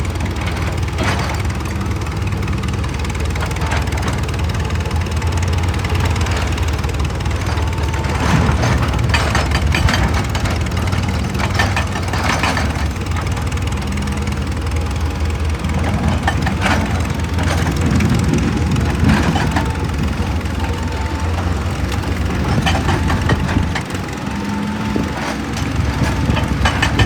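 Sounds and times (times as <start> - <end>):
excavator engine under load: 0.0 - 27.0.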